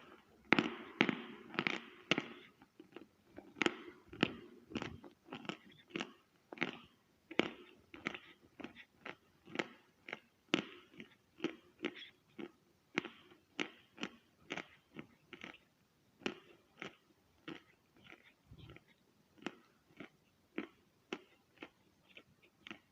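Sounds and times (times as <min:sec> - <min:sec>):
chewing chalk crunches: 0:00.0 - 0:22.9.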